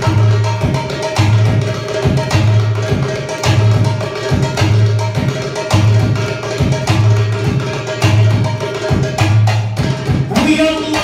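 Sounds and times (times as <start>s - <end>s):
goblet drum rhythm: 0.0s - 11.0s.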